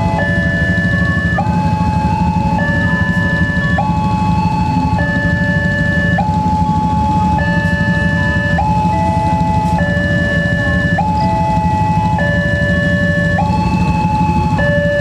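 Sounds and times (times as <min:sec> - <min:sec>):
level-crossing alarm two tones: 0:00.0 - 0:15.0.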